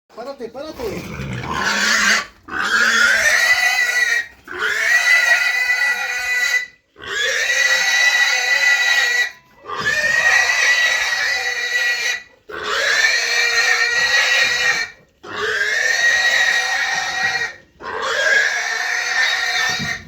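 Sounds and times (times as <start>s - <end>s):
pig squealing: 0.8s - 20.0s.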